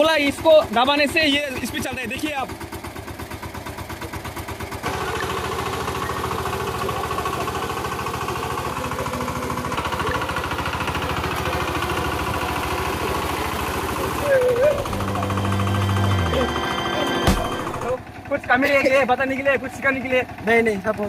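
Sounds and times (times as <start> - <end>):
diesel tiller engine running: 0.0 - 21.0.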